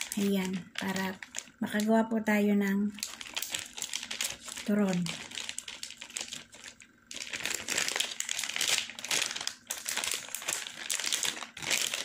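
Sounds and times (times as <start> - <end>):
plastic packet crinkling: 0.0 - 1.9, 2.9 - 12.0.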